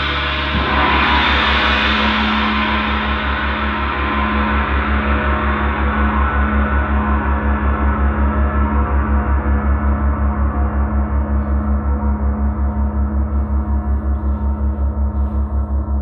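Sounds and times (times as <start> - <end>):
deep throbbing hum: 0.0 - 16.0.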